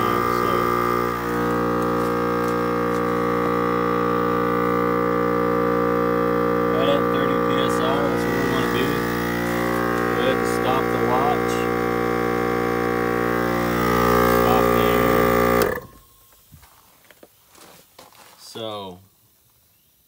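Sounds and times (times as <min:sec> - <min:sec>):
air compressor droning hum: 0:00.0 - 0:16.1.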